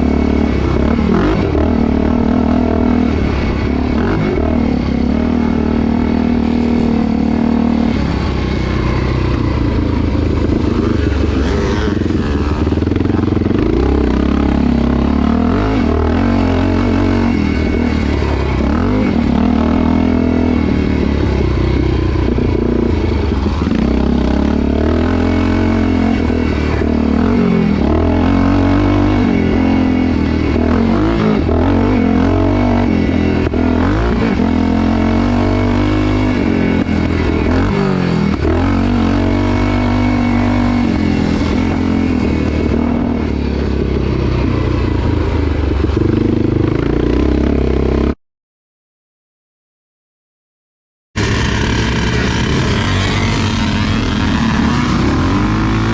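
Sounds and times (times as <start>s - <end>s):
motorcycle engine revving: 0.0s - 48.2s, 51.2s - 55.9s.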